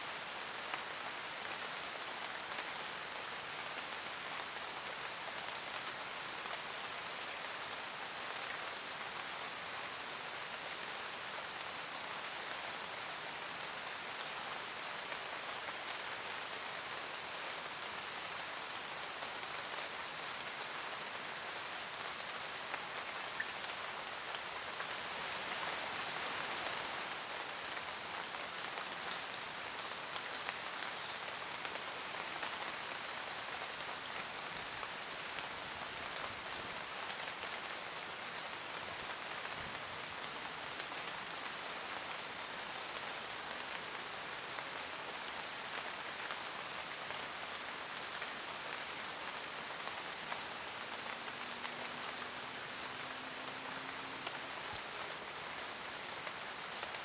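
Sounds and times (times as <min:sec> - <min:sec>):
rain pattering on leaves: 0:00.0 - 0:57.0.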